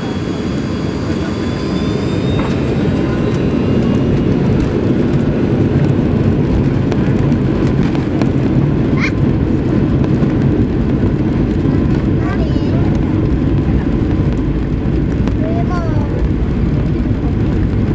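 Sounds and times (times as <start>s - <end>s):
jet engines rumbling: 0.0s - 17.9s.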